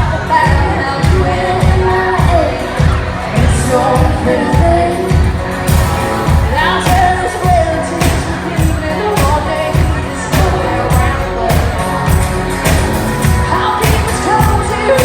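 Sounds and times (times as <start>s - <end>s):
live country band: 0.0s - 15.0s
person singing: 0.0s - 15.0s.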